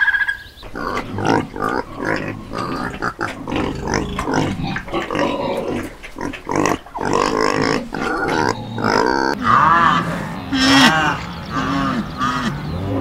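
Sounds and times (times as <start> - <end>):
pigs grunting and squealing: 0.6 - 13.0.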